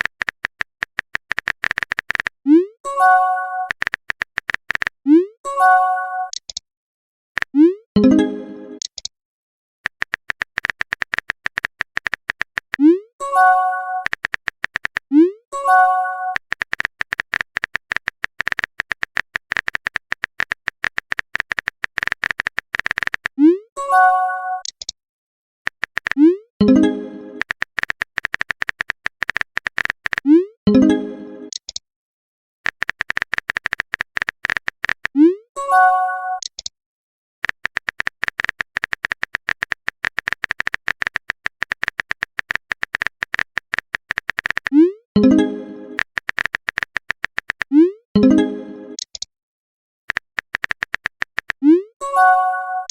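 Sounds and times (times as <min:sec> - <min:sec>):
keyboard typing clicks: 0:00.0 - 0:05.3, 0:06.2 - 0:06.6, 0:07.4 - 0:09.1, 0:09.9 - 0:23.4, 0:24.6 - 0:25.0, 0:25.7 - 0:31.8, 0:32.7 - 0:35.4, 0:36.4 - 0:36.7, 0:37.4 - 0:49.3, 0:50.1 - 0:52.9.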